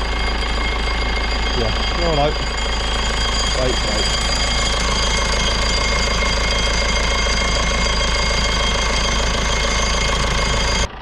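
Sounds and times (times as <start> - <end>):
irrigation pump droning: 0.0 - 11.0.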